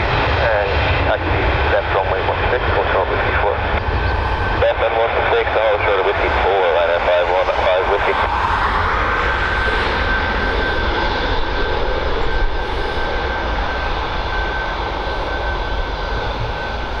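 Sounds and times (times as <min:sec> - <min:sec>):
high jet engine whine: 0:00.0 - 0:17.0
jet engines roaring at takeoff: 0:00.0 - 0:17.0.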